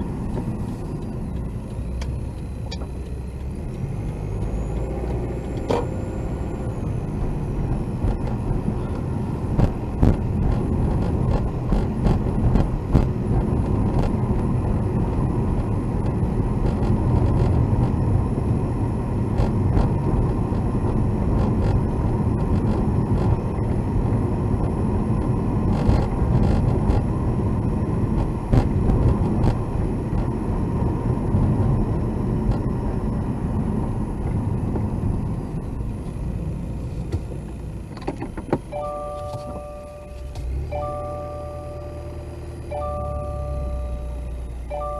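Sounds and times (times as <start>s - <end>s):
road and engine rumble in car: 0.0s - 44.9s.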